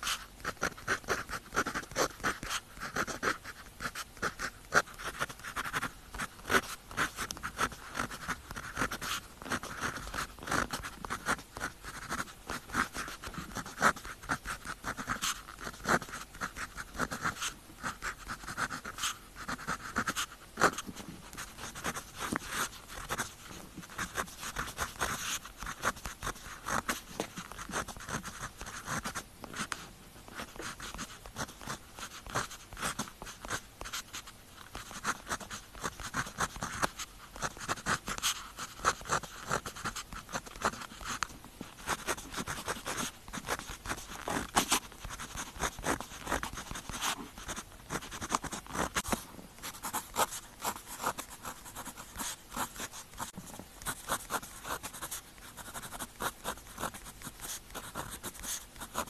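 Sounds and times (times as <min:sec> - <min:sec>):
pen scratching on paper: 0:00.0 - 0:59.0.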